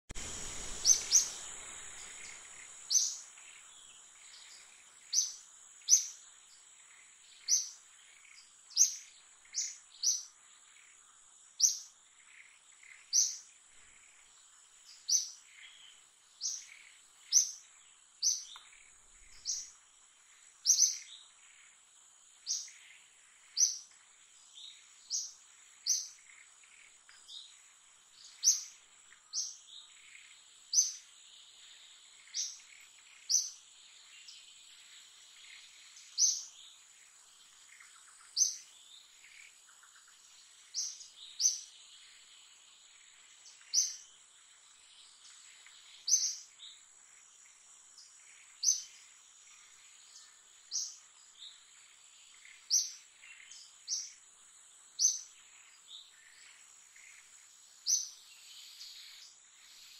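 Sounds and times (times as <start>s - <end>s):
bird chirping: 0.1s - 59.9s
insect drone: 0.1s - 59.9s.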